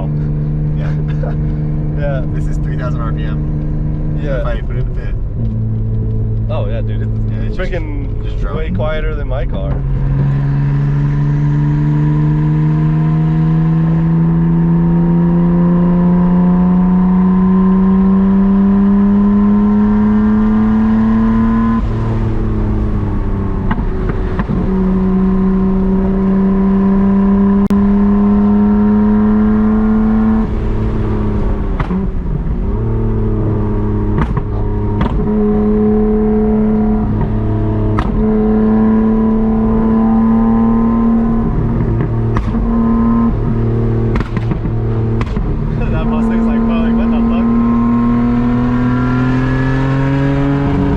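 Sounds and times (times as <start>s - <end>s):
car engine droning: 0.0s - 50.9s.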